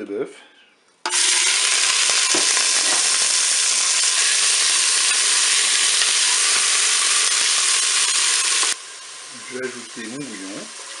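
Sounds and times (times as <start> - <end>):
meatballs sizzling in oil: 1.1 - 11.0.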